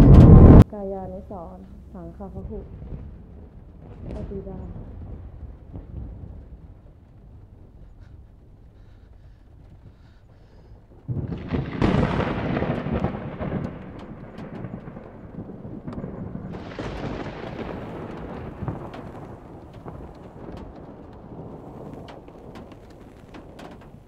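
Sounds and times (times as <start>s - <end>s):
thunder rumbling and cracking: 0.0s - 24.0s.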